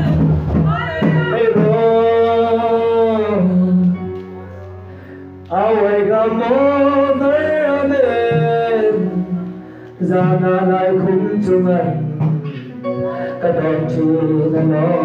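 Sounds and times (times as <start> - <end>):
man singing worship song: 0.0 - 4.6, 5.5 - 15.0
low accompaniment: 0.0 - 15.0.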